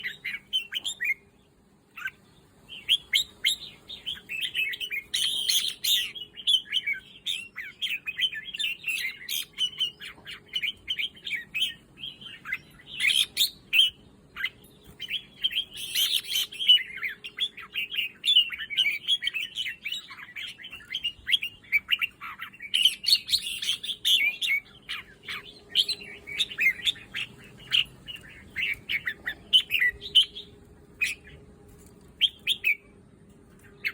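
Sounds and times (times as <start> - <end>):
bird chirping and singing: 0.0 - 31.5, 32.2 - 33.9.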